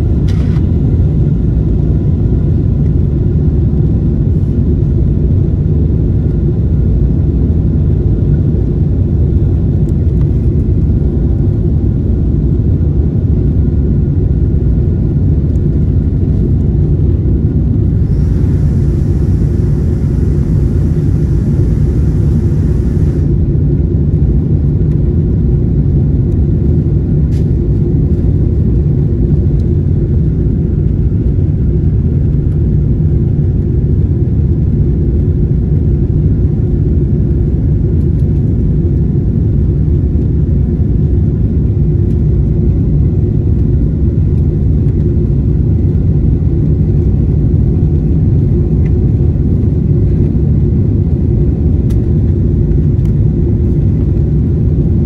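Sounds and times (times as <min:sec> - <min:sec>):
jet engine roar in cabin: 0:00.0 - 0:55.0.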